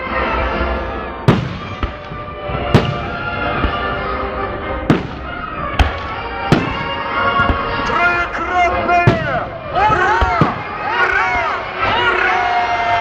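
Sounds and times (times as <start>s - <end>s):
music playing: 0.0s - 13.0s
fireworks bangs: 1.3s - 11.8s.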